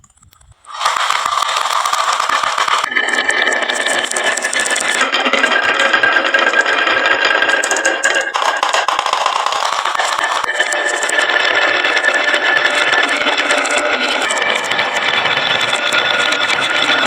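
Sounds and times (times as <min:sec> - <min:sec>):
marbles rolling down wooden slope: 0:00.6 - 0:17.0.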